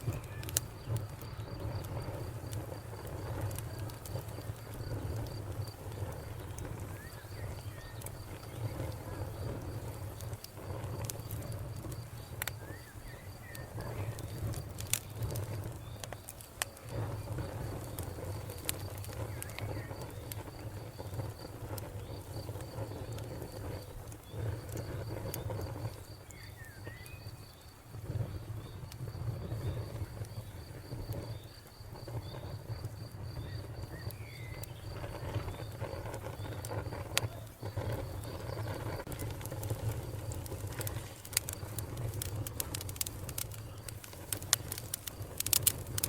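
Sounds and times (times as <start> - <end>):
cricket chirping: 0.0 - 46.0
wood fire crackling: 0.0 - 46.0.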